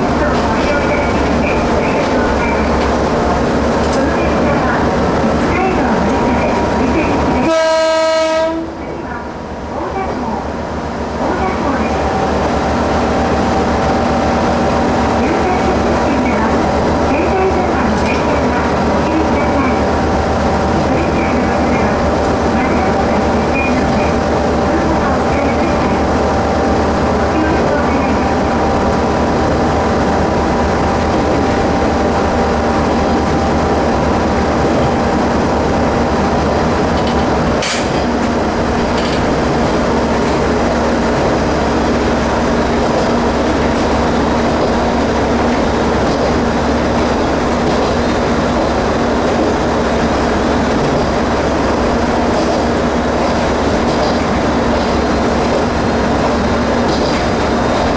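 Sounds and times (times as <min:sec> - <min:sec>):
wheel and rail noise: 0:00.0 - 0:07.5, 0:11.1 - 0:57.9
diesel railcar engine drone: 0:00.0 - 0:57.9.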